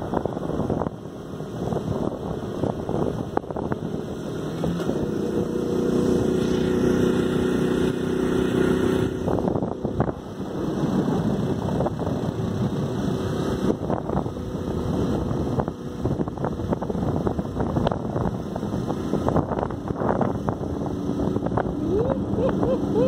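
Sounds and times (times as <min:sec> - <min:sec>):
vehicle engine running: 0:00.0 - 0:23.0
wind rushing over microphone: 0:00.0 - 0:23.0.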